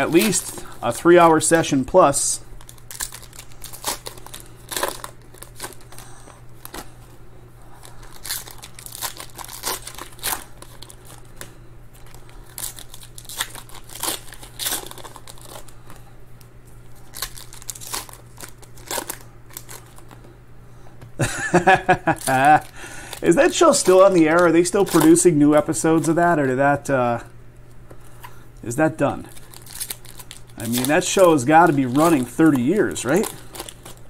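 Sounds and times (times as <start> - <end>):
foil wrappers tearing and crinkling: 0.0 - 7.0, 7.7 - 16.1, 17.0 - 20.2, 21.5 - 26.2, 28.7 - 34.0.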